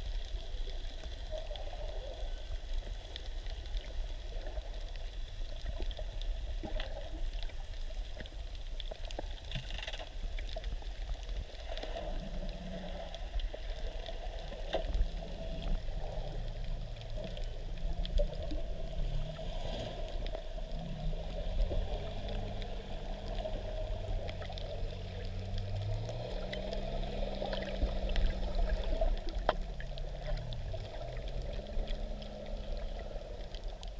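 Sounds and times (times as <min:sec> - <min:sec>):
water sloshing and bubbling: 0:00.0 - 0:33.9.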